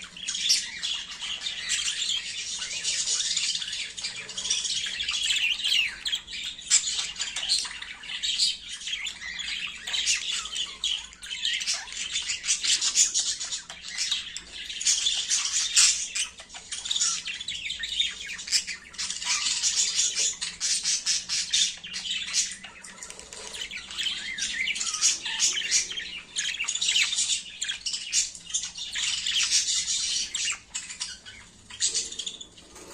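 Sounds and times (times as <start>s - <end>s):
budgerigars chattering and squawking: 0.0s - 32.9s.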